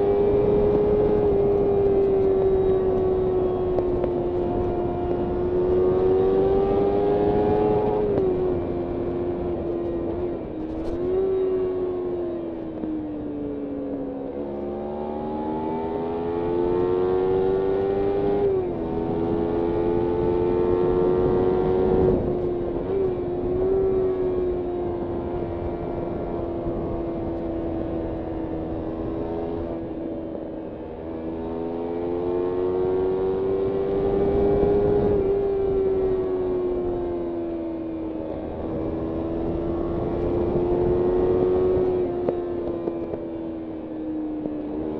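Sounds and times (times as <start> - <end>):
wind noise: 0.0 - 14.5, 15.3 - 44.9
motorcycle engine accelerating: 0.0 - 44.9.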